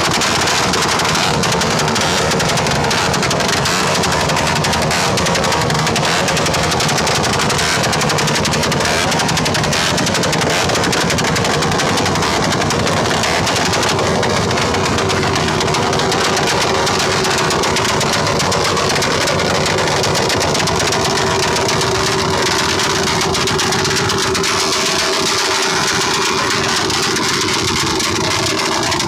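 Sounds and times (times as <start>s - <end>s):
fast pulsing rattle: 0.0s - 29.0s
steady hum: 0.0s - 29.0s
vehicle engine running loudly: 0.0s - 29.0s.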